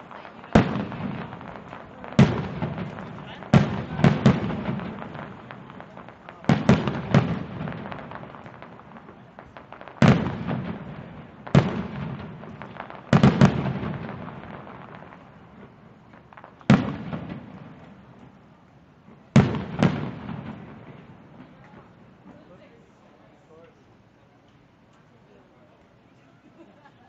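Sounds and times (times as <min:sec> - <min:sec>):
fireworks booming with echo: 0:00.0 - 0:23.0.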